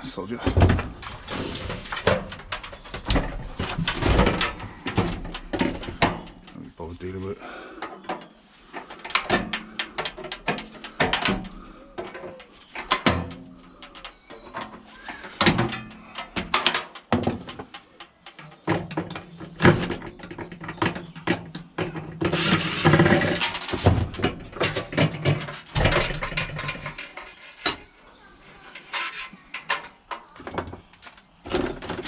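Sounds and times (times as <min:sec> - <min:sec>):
scrap metal knocking and clattering: 0:00.3 - 0:32.0.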